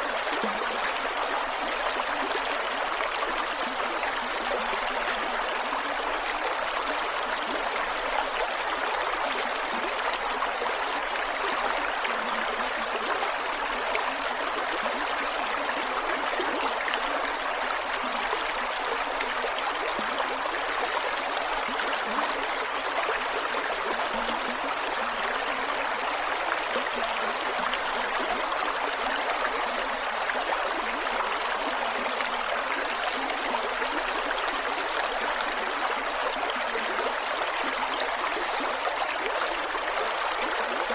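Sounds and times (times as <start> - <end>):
creek water running over rocks: 0.0 - 40.9.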